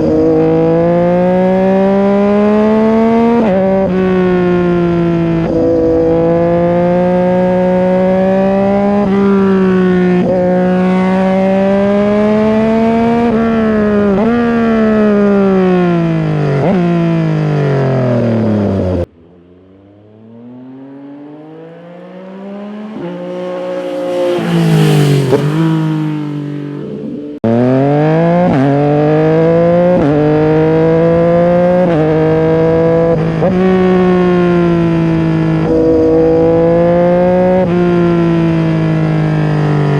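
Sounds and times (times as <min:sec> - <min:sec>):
motorcycle engine revving under way: 0:00.0 - 0:39.9
motorcycle passing by: 0:00.0 - 0:39.9.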